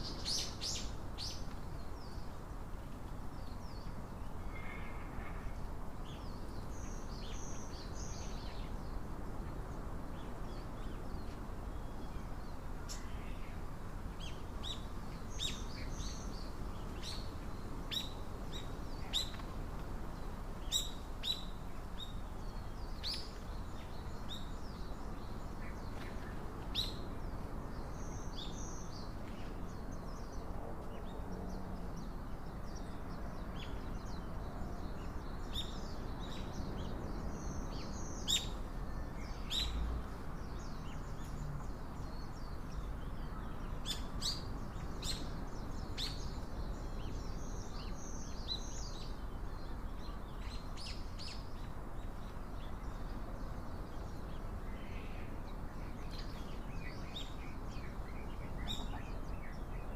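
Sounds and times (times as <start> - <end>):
low background noise: 0.0 - 59.9
small birds chirping: 0.0 - 59.9.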